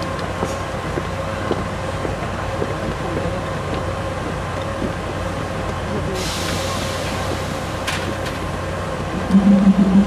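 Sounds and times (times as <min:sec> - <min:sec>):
diesel locomotive idling: 0:00.0 - 0:10.0.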